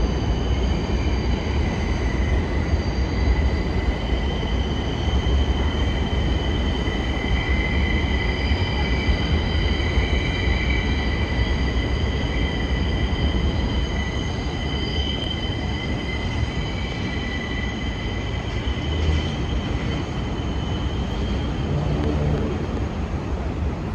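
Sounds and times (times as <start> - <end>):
subway train running noise: 0.0 - 23.9
train wheels squealing: 0.0 - 23.9.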